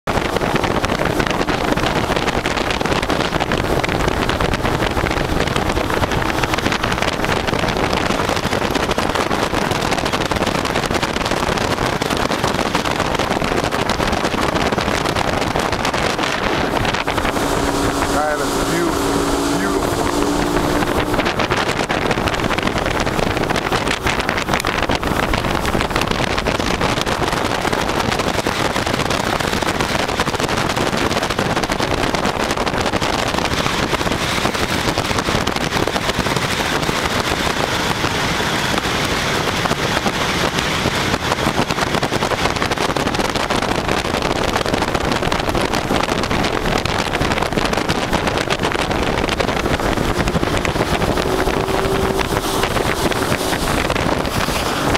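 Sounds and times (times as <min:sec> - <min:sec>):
motorboat engine: 0:00.0 - 0:54.9
rushing water: 0:00.0 - 0:54.9
wind buffeting microphone: 0:00.0 - 0:54.9.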